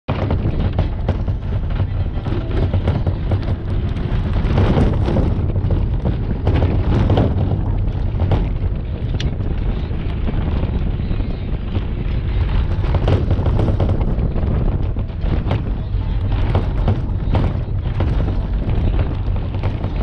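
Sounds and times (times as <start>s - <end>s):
small knocks and rattles: 0.1s - 20.0s
steady low rumble: 0.1s - 20.0s
wind noise on microphone: 0.1s - 20.0s.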